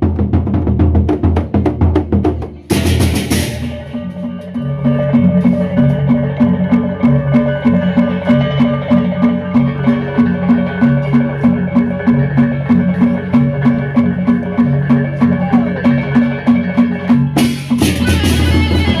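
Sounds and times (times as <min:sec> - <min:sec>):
barrel drums beaten: 0:00.0 - 0:19.0.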